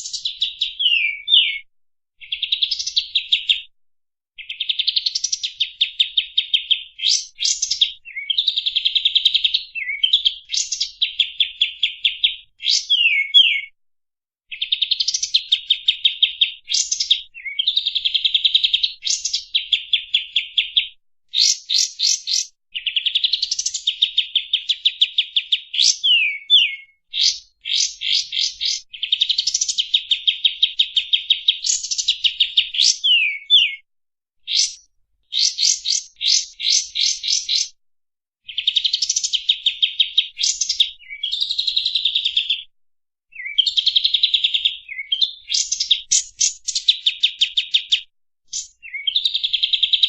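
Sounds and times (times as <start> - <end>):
bird singing rapid chirping trills: 0.0 - 3.6, 4.4 - 13.8, 14.5 - 33.8, 34.5 - 37.8, 38.5 - 42.6, 43.3 - 50.0.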